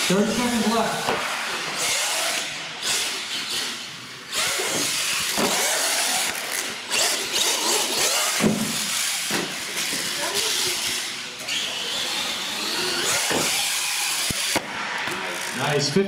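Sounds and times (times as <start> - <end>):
electric motor whining: 1.6 - 14.6.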